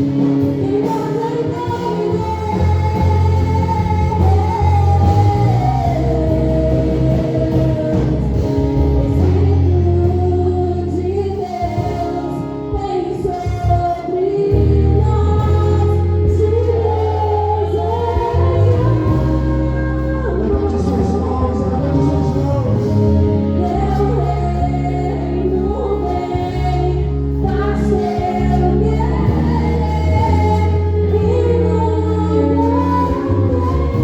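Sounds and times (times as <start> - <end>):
band playing: 0.0 - 34.0
held bass notes: 0.0 - 34.0.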